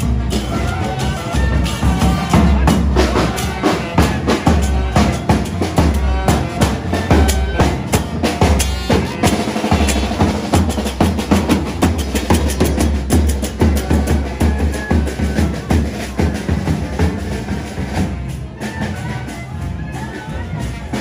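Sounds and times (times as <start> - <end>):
snare drum: 0.0 - 19.3
bass drum: 0.0 - 21.0
cymbals: 0.0 - 21.0
wind instruments playing tune: 0.0 - 21.0.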